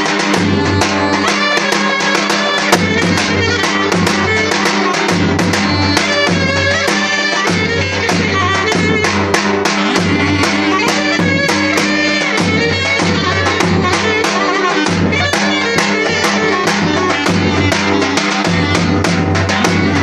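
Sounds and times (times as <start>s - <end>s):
reedy clarinet melody: 0.0s - 20.0s
bass drum beating: 0.3s - 1.6s, 2.7s - 6.9s, 7.5s - 20.0s.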